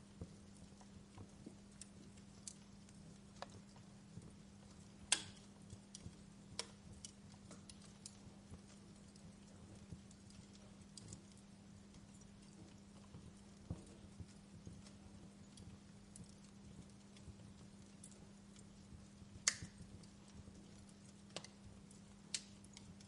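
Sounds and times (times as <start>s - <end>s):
faint low hum: 0.0s - 23.0s
wood fire crackling: 0.0s - 23.0s.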